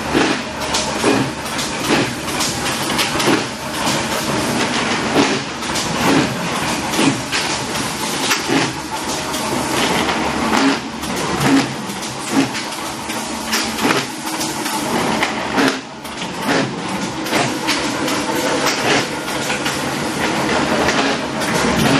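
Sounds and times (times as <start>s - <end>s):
machine clacks: 0.0s - 21.9s
machine rattling: 0.0s - 21.9s.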